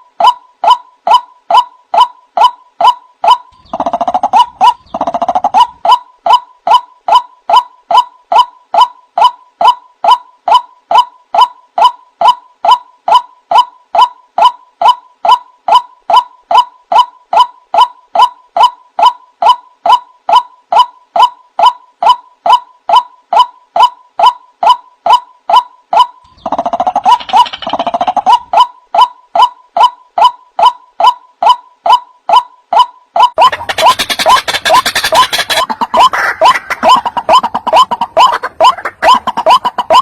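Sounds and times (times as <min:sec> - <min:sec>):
bird call repeating: 0:00.0 - 0:40.0.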